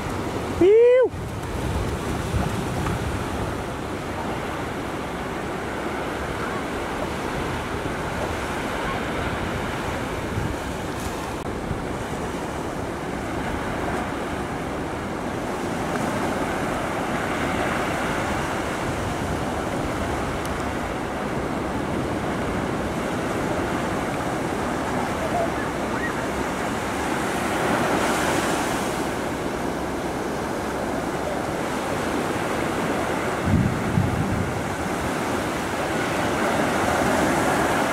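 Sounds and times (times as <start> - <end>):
waves breaking: 0.0 - 37.9
wind on microphone: 0.0 - 37.9.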